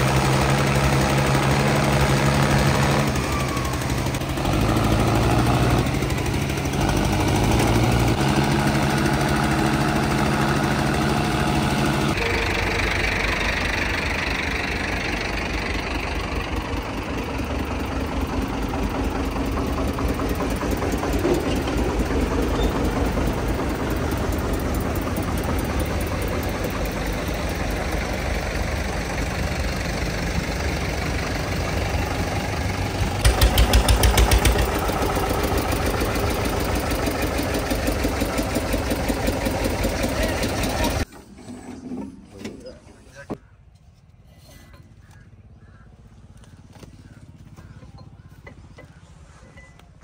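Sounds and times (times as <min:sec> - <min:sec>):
diesel tractor engines knocking: 0:00.0 - 0:41.2, 0:44.7 - 0:50.0.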